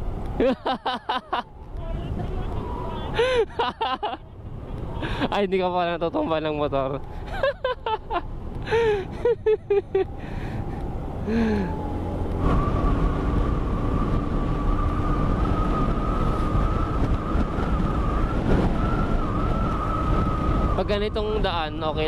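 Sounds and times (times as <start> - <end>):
scooter engine and wind rumble: 0.0 - 22.0.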